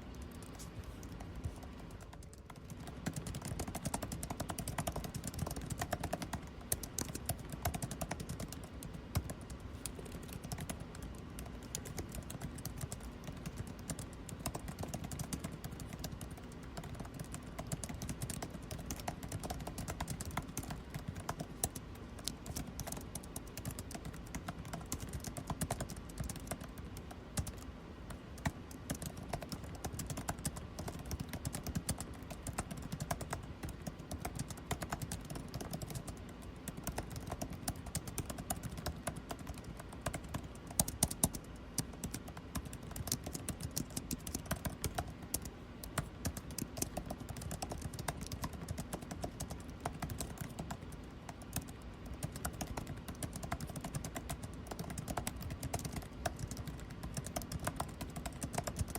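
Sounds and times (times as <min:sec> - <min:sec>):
air conditioning hum: 0:00.0 - 0:58.9
rapid keyboard typing: 0:00.0 - 0:58.9.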